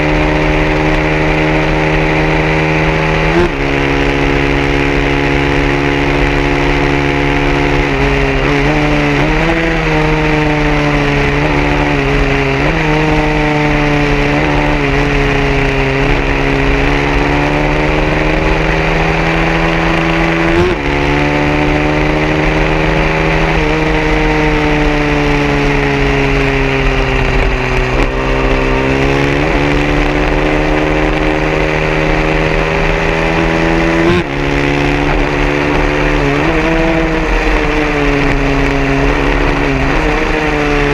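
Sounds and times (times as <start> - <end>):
low engine drone: 0.0 - 40.9
racing motorcycle engines revving: 0.0 - 40.9.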